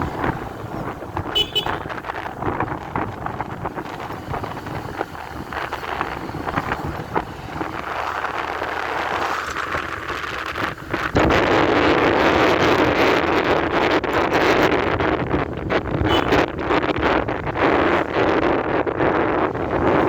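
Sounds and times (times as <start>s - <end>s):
motorcycle running: 0.0s - 20.0s
wind on microphone: 0.0s - 20.0s.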